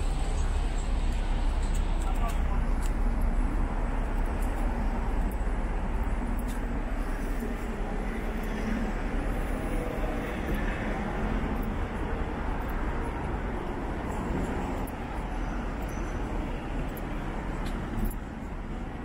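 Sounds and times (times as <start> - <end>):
hum of engines and tyres: 0.0 - 19.0.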